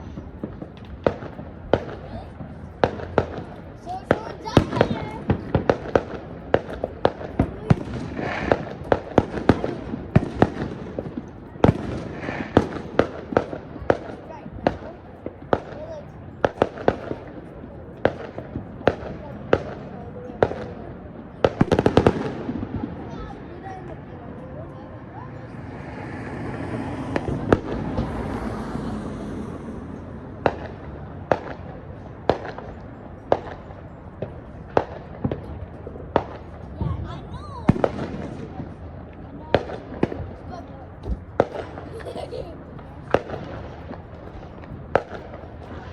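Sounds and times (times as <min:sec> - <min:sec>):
firecrackers banging: 0:00.0 - 0:45.9.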